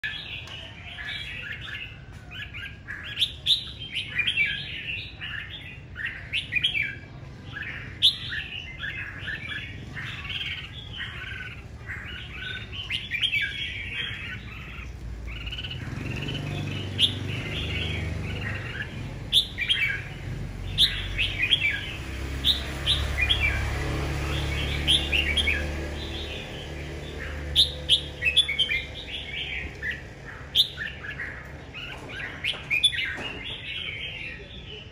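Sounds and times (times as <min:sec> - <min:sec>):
bird chirping phrases: 0:00.0 - 0:34.9.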